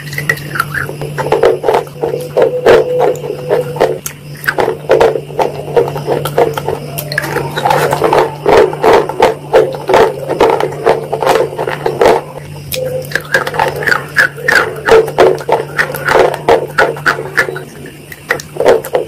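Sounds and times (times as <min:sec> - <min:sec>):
chocolate chewing crunches: 0:00.0 - 0:19.0
steady low hum: 0:00.0 - 0:19.0.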